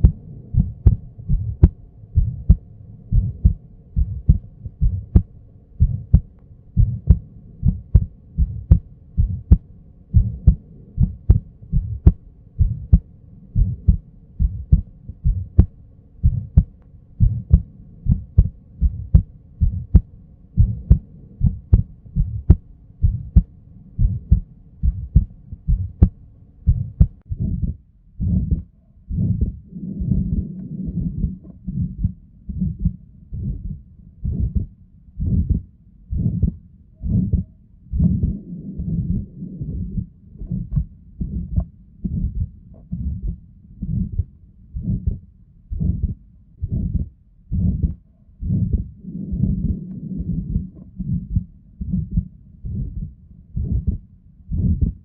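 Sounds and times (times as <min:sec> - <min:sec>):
faint steady hum: 0:00.0 - 0:55.0
heart murmur: 0:00.0 - 0:55.0
heartbeats through stethoscope: 0:00.0 - 0:55.0.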